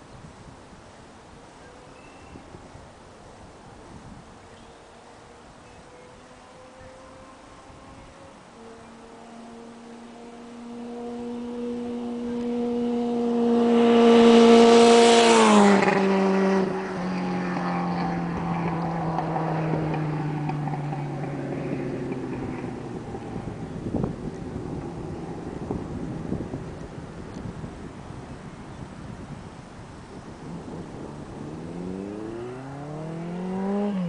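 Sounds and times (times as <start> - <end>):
motorcycle passing by: 4.7 - 34.0.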